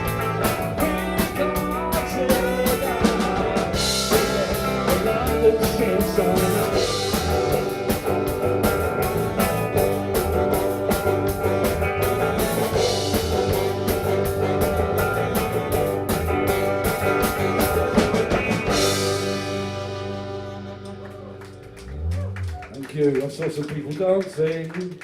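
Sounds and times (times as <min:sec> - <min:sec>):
live rock band playing: 0:00.0 - 0:22.8.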